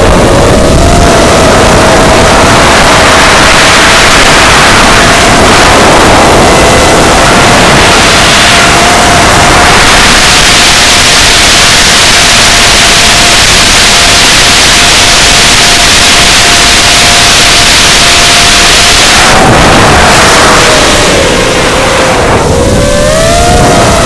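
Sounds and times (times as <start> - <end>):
drone motors whining: 0.0 - 24.0
loud hissing noise: 0.0 - 24.0.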